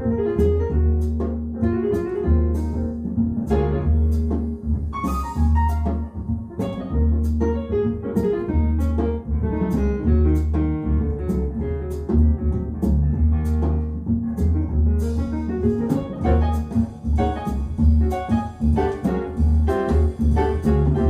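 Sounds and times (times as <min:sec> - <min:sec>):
double bass: 0:00.0 - 0:21.0
jazz over loudspeakers: 0:00.0 - 0:21.0
piano: 0:00.0 - 0:21.0.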